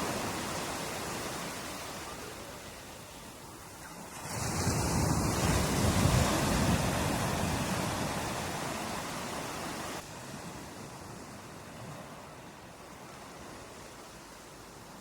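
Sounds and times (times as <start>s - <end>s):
ocean wave breaking: 0.0s - 14.5s.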